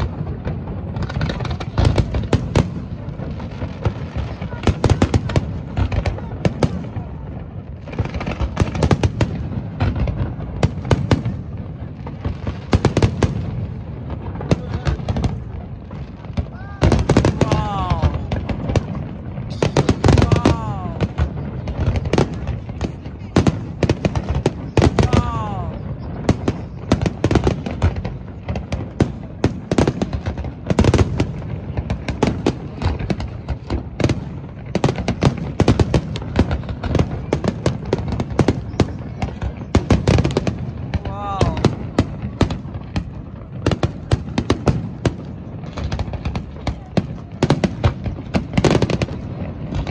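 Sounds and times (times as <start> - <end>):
firework bangs: 0.0 - 49.9
firework crackling: 0.0 - 49.9.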